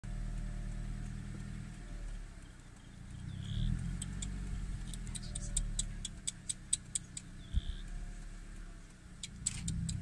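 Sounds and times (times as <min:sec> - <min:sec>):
fast sharp high clicks: 0:00.0 - 0:10.0
vehicle engine idling: 0:00.0 - 0:10.0.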